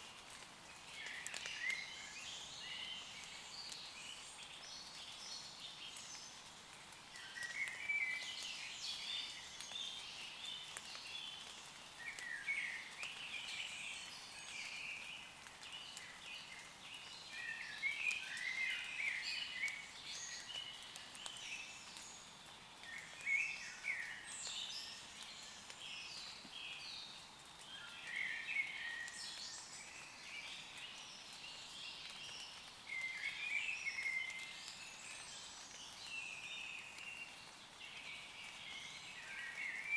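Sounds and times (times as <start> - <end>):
light rain on leaves: 0.0 - 39.9
woodland birds singing: 0.0 - 39.9.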